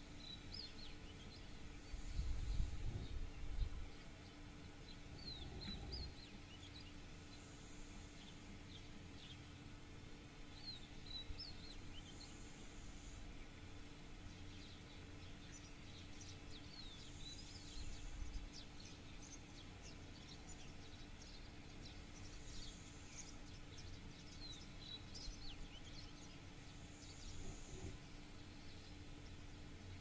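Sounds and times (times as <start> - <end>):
low hum: 0.0 - 30.0
small birds chirping: 0.0 - 30.0.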